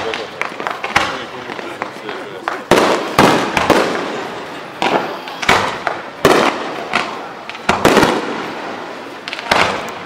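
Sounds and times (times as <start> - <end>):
fireworks bursting with bangs: 0.0 - 10.0.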